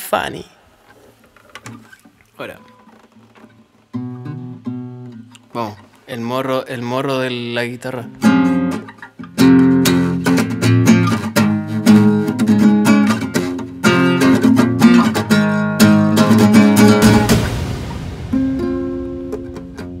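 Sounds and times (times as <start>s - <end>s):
acoustic guitar strumming: 2.6s - 5.9s, 6.8s - 20.0s.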